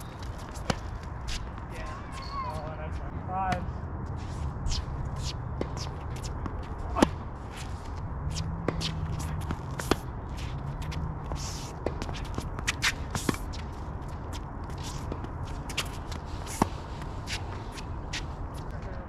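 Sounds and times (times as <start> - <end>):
shoes scuffing on hard court: 0.0 - 2.6, 4.2 - 18.7.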